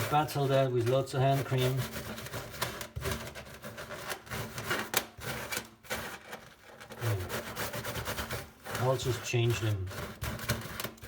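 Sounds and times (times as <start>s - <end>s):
scraping bolts in a sink: 0.0s - 11.0s.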